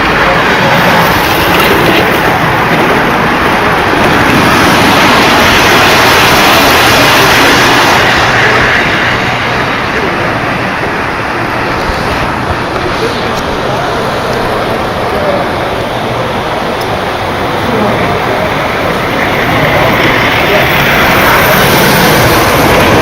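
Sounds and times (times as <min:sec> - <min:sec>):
model train rumbling on track: 0:00.0 - 0:23.0.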